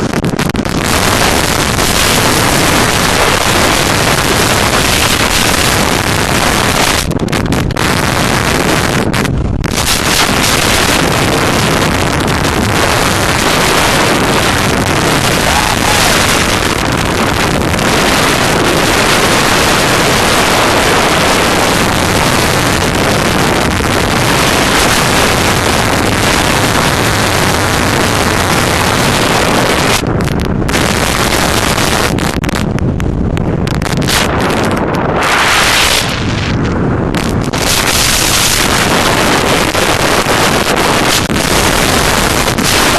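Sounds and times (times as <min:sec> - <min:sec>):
wind roaring over microphone: 0:00.0 - 0:42.9.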